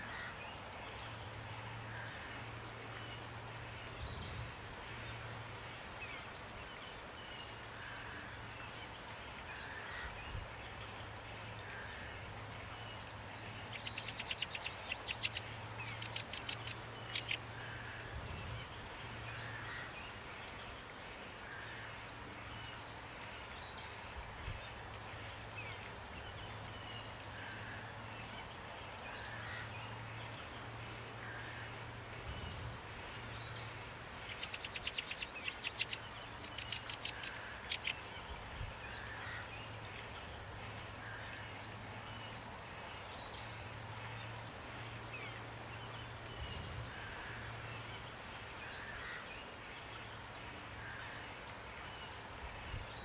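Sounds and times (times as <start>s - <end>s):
rain hiss: 0.0s - 53.0s
songbirds chirping: 0.0s - 53.0s.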